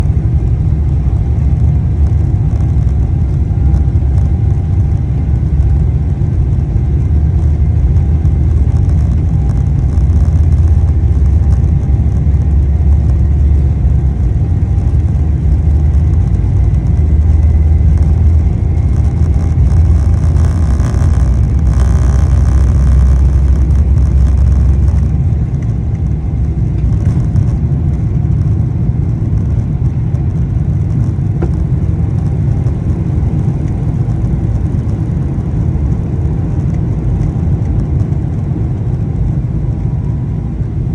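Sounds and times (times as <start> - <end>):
jet engine whine: 0.0 - 40.9
jet engines rumbling: 0.0 - 40.9.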